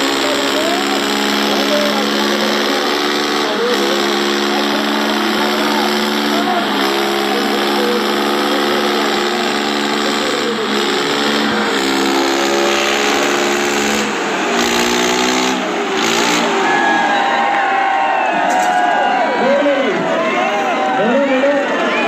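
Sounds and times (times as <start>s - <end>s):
crowd shouting: 0.0s - 22.0s
tractor engines straining: 0.0s - 22.0s.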